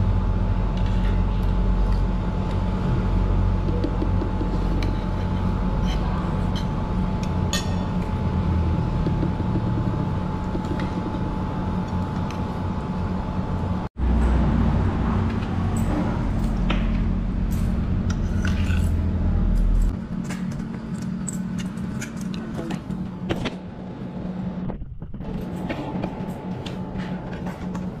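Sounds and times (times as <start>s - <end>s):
low background hum and rumble: 0.0s - 28.0s.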